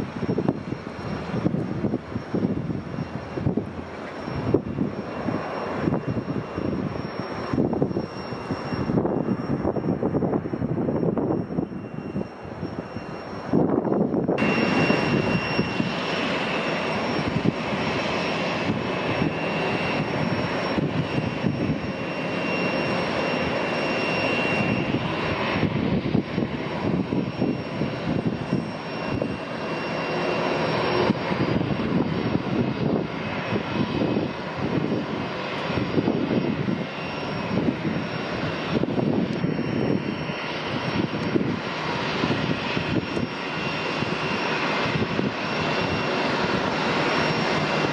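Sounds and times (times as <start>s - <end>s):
jet engines whining: 0.0s - 47.9s
wind gusting on microphone: 0.0s - 47.9s.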